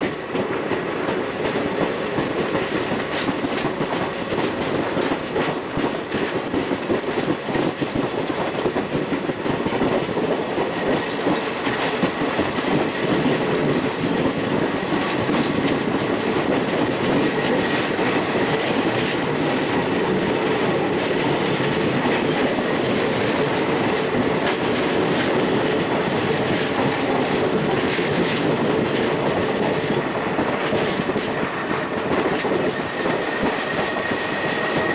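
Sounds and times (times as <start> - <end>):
train wheels rumbling on track: 0.0 - 34.9
wheels clacking over rail joints: 0.0 - 34.9.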